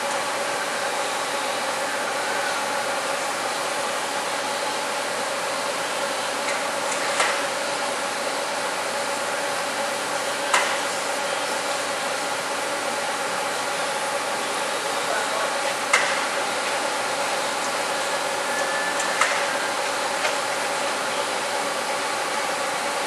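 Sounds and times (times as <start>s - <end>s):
machine whirring and humming: 0.0s - 23.0s.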